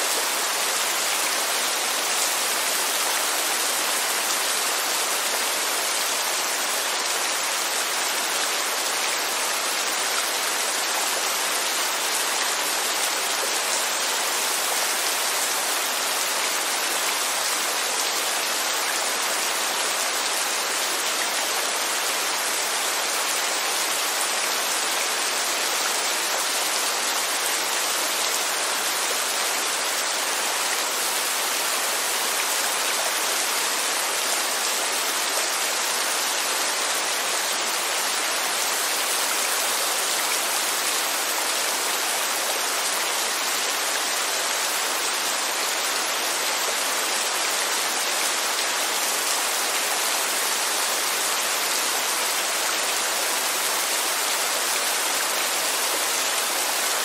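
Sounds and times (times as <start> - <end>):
rain on a corrugated roof: 0.0 - 57.0.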